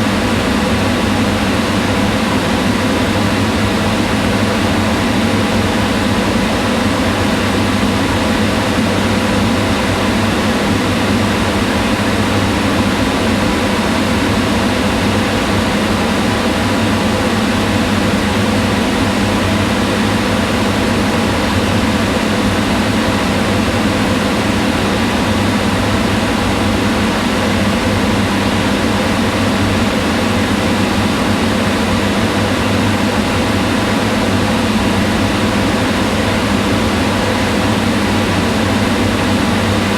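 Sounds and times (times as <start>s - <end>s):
range hood fan running: 0.0s - 39.9s.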